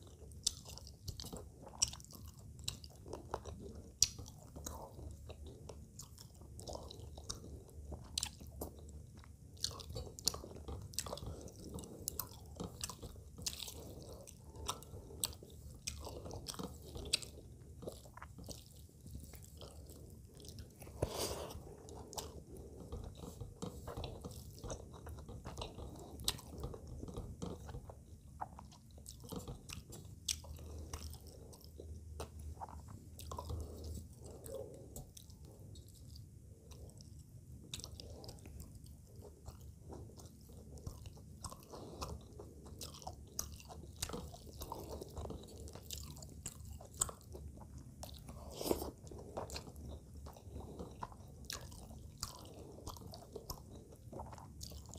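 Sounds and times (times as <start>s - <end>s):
chewing with mouth clicks: 0.0s - 54.9s.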